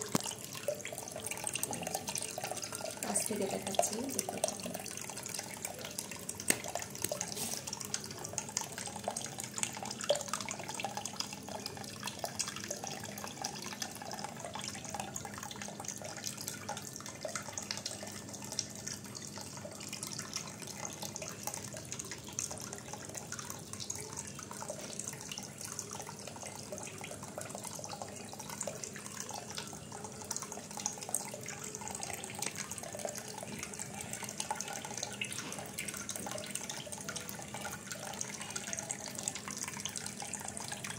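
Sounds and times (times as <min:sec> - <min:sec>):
fountain water trickling and splashing: 0:00.0 - 0:40.9
water drips: 0:00.0 - 0:40.9.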